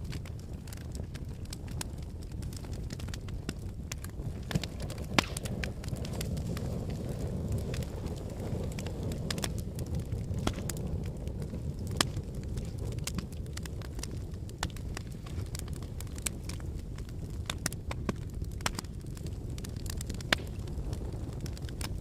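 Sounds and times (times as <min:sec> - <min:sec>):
burning logs crackling and popping: 0:00.0 - 0:22.0
low rumble of flames: 0:00.0 - 0:22.0.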